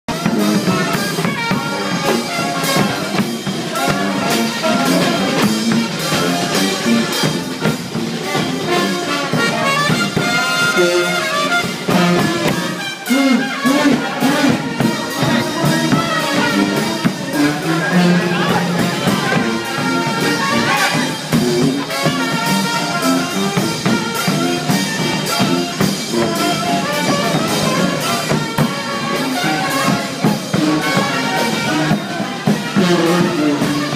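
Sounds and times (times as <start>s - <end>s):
bass drum and snare beat: 0.1s - 33.9s
brass band playing: 0.1s - 33.9s
trumpet and trombone: 0.1s - 33.9s.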